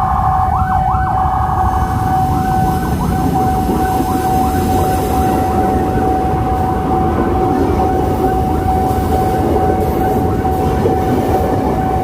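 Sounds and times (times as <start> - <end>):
low rumble: 0.0 - 11.1
siren sweeping up and down: 0.0 - 12.0
steady alarm tone: 0.0 - 12.0.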